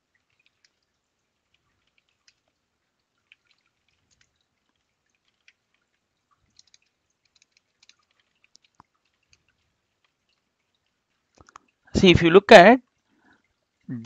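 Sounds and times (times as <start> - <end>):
faint keyboard typing: 0.0 - 11.8.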